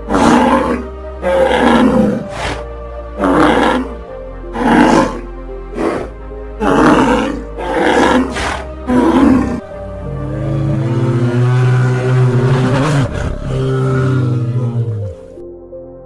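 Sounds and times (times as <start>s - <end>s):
big cat roaring: 0.0s - 2.6s, 3.2s - 15.2s
music with long held notes: 0.0s - 16.0s.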